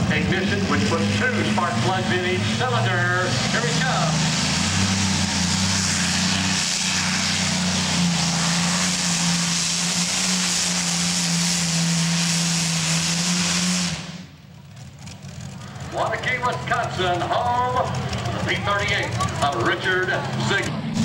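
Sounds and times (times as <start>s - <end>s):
tractor engine at full power: 0.0s - 21.0s.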